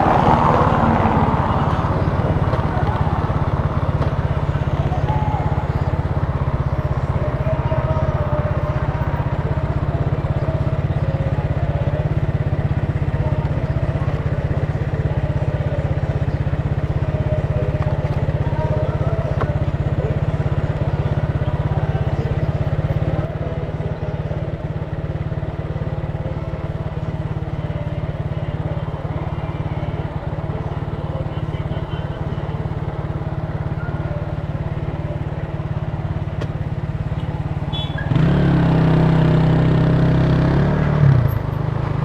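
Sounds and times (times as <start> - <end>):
motorcycle engine running: 0.0 - 42.0
road and street noise: 0.0 - 42.0.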